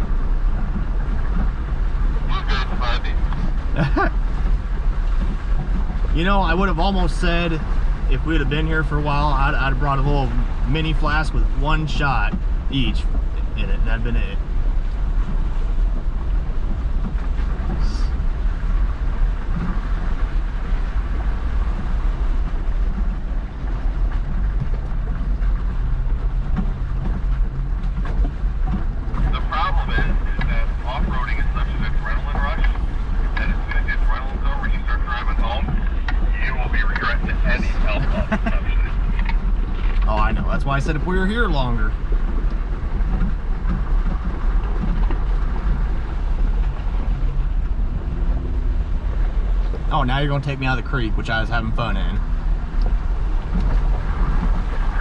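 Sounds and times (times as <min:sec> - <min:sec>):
engine rumbling at low speed: 0:00.0 - 0:55.0.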